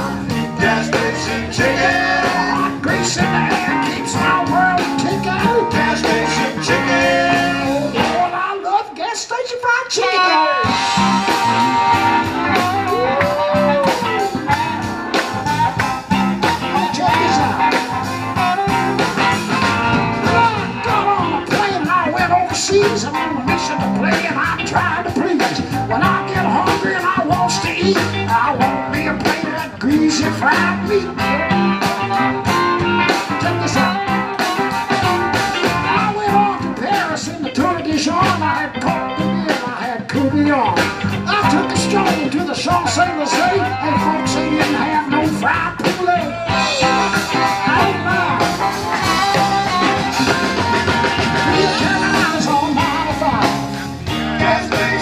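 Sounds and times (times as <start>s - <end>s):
electric guitar: 0.0s - 8.7s, 9.9s - 55.0s
live blues band playing: 0.0s - 55.0s.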